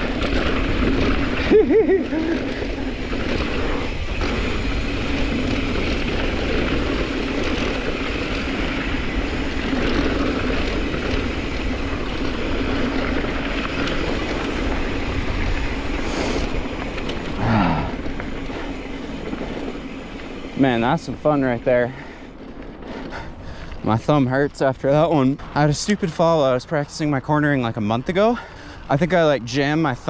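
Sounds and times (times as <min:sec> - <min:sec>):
bike rattling: 0:00.0 - 0:30.0
tyres rolling over dirt and rock: 0:00.0 - 0:30.0.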